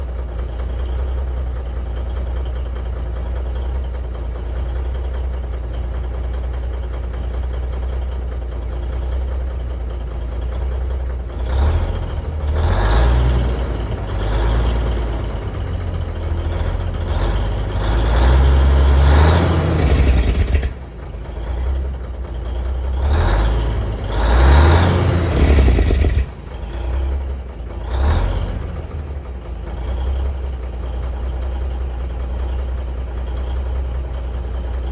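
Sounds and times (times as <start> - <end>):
diesel truck engine running: 0.0 - 34.9.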